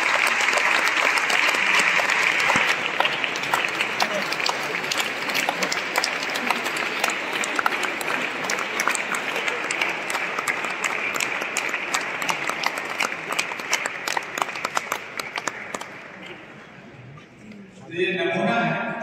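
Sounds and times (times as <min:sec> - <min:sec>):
crowd applauding: 0:00.0 - 0:16.8.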